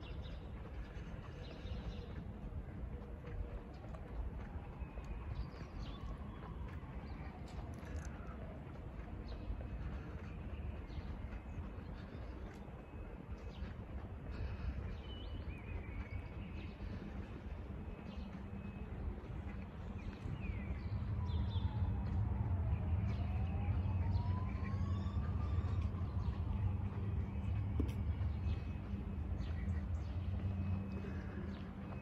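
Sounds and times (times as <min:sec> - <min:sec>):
steady low city rumble: 0:00.0 - 0:32.0.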